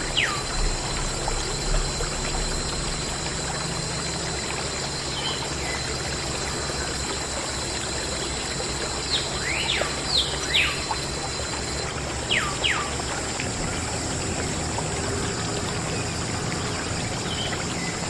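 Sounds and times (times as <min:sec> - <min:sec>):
thin high steady tone: 0:00.0 - 0:18.0
water pouring and trickling: 0:00.0 - 0:18.0.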